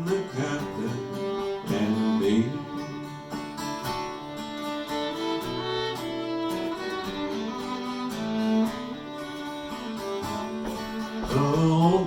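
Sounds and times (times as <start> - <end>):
fiddle playing melody: 0.0 - 12.0
strummed acoustic guitar: 0.0 - 12.0.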